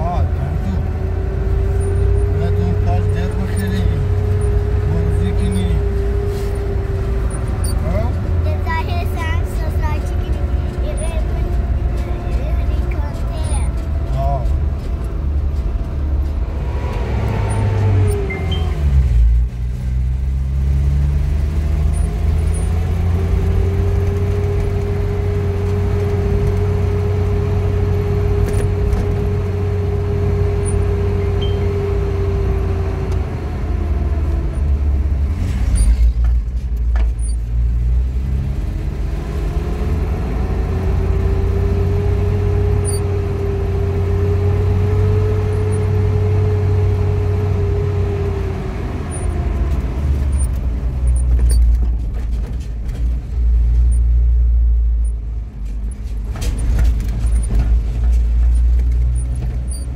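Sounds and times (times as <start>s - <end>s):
engine whine: 0.0s - 59.9s
motor vehicle engine rumble: 0.0s - 59.9s.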